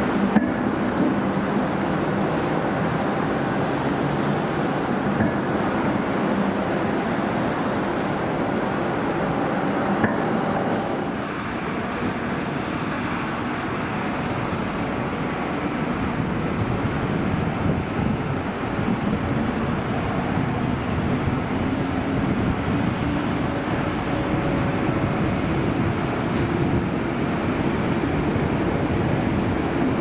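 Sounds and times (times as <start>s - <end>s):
jet engines running on runway: 0.0s - 30.0s.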